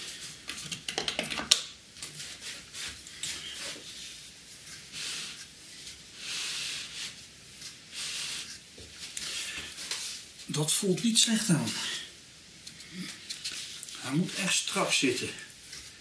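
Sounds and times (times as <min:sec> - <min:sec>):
hands rubbing and scraping wood: 0:00.0 - 0:10.6, 0:12.6 - 0:16.0.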